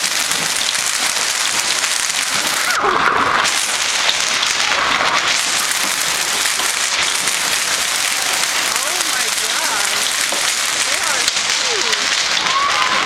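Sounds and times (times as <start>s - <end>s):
hail and rain pelting: 0.0s - 13.0s.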